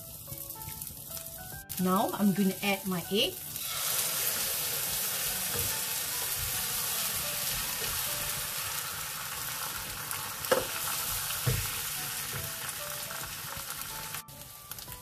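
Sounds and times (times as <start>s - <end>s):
egg sizzling in hot oil: 0.0s - 15.0s.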